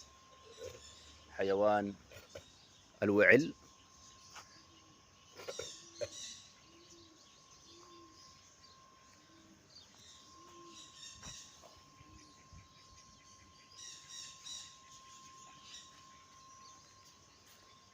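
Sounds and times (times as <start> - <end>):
faint birds chirping: 0.0 - 17.9.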